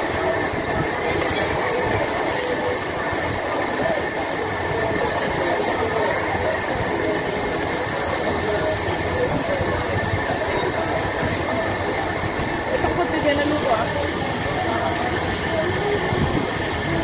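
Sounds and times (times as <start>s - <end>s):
background chatter: 0.0s - 17.0s
grill exhaust hiss and hum: 0.0s - 17.0s.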